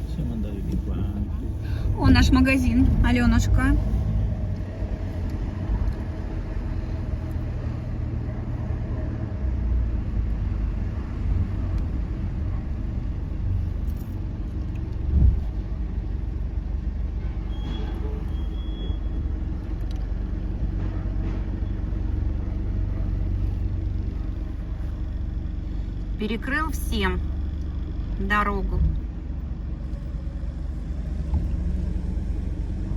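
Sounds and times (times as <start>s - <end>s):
car engine and road rumble: 0.0s - 32.9s.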